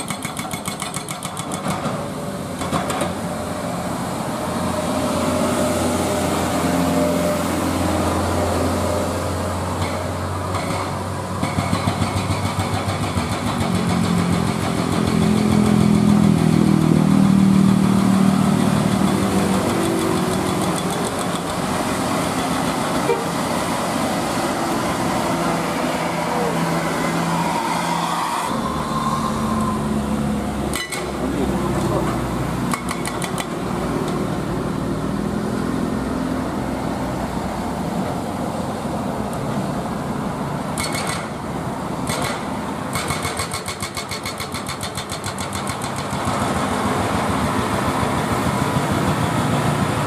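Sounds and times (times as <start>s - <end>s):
motorcycles: 0.0s - 37.8s, 38.5s - 50.0s
diesel engines labouring uphill: 0.0s - 50.0s.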